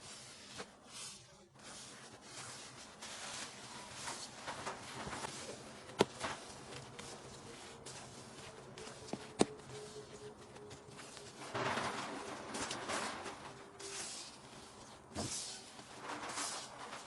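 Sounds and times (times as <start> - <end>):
soft rustling: 0.0 - 17.0.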